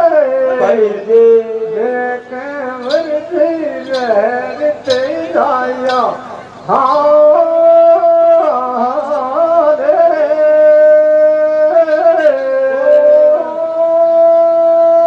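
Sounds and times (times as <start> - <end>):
folk singing with ornamented melody: 0.0 - 15.0.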